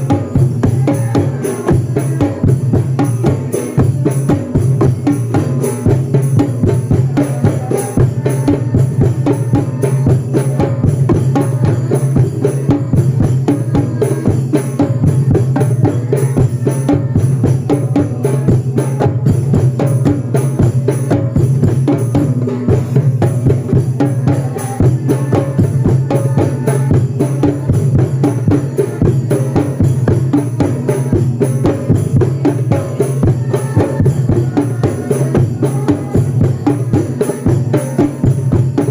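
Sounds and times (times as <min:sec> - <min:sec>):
drums playing fast rhythm: 0:00.0 - 0:38.9.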